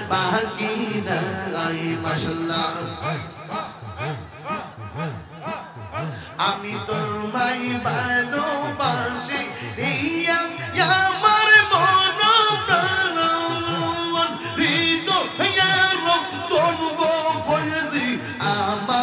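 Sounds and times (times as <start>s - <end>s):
person singing devotional song: 0.0s - 19.0s.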